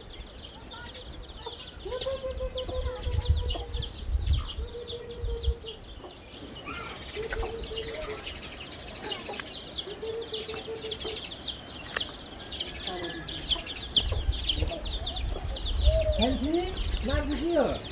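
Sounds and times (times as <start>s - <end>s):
long level-pitched bird call: 0.0s - 17.9s
small birds chirping: 0.0s - 17.9s.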